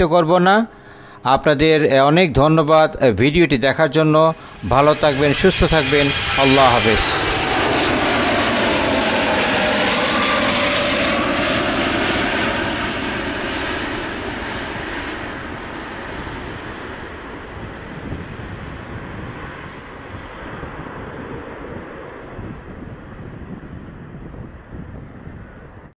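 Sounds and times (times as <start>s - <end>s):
jet engines at takeoff: 0.7s - 1.3s, 3.9s - 25.9s.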